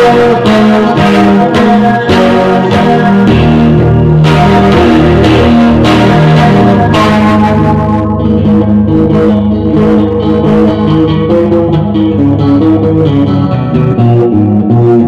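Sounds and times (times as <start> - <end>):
guitar picking melody: 0.0 - 15.0
low bass line: 0.0 - 15.0.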